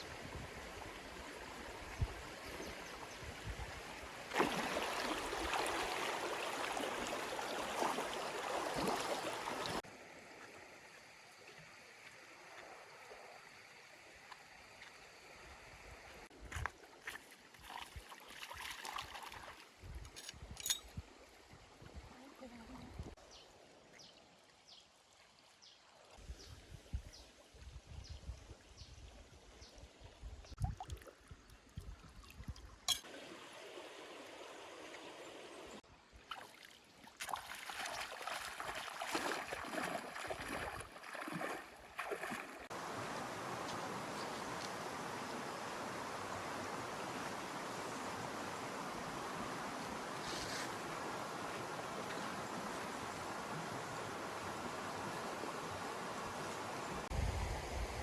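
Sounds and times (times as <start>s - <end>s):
stream running over rocks: 0.0s - 26.4s, 30.7s - 58.0s.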